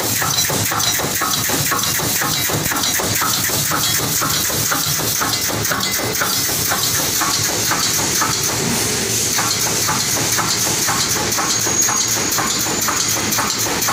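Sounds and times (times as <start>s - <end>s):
pneumatic hiss: 0.0s - 13.9s
welding machine rapid clatter: 0.0s - 13.9s.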